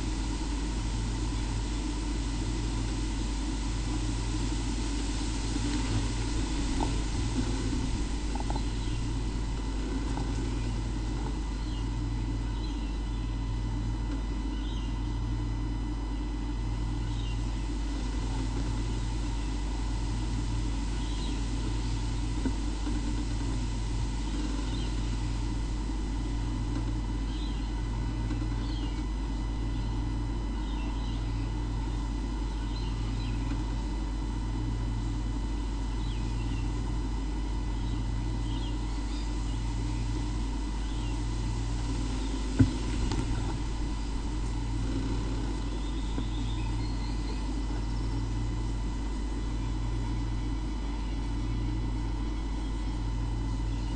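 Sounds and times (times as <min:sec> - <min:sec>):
low repeating throb: 0:00.0 - 0:52.9
low hum: 0:00.0 - 0:53.9
thin whine tones: 0:00.0 - 0:53.9.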